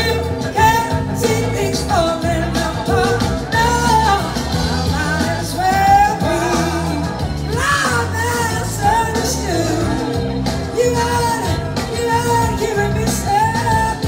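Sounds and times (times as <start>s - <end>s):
electric guitars: 0.0s - 14.0s
keyboards: 0.0s - 14.0s
woman singing lead: 0.0s - 14.0s.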